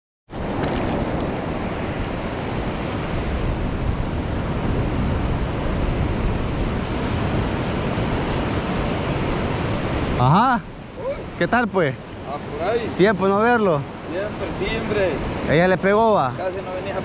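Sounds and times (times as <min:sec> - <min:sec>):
ocean surf on beach: 0:00.3 - 0:17.0
wind buffeting microphone: 0:00.3 - 0:17.0.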